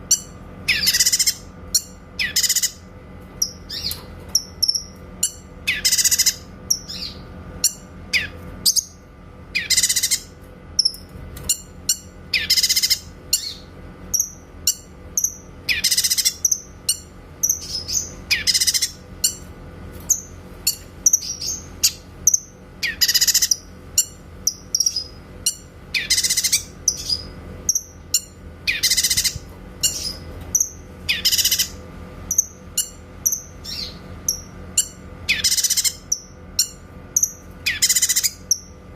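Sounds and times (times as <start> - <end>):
bird singing shrill phrases: 0.1 - 19.4, 20.1 - 38.8.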